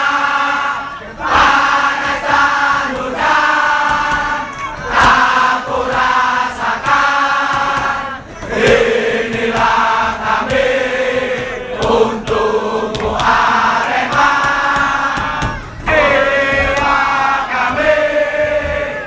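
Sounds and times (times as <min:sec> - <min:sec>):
crowd of men singing a chant: 0:00.0 - 0:19.0.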